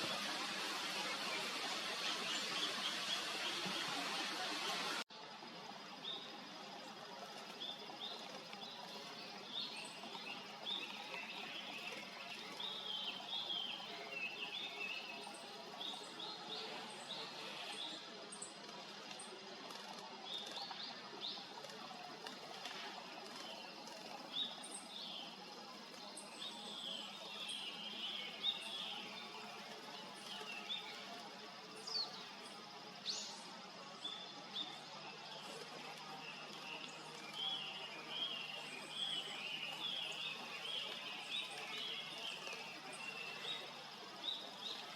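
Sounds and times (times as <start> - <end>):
small birds chirping and twittering: 0.0 - 5.0, 5.6 - 44.9
outdoor background noise: 0.0 - 44.9.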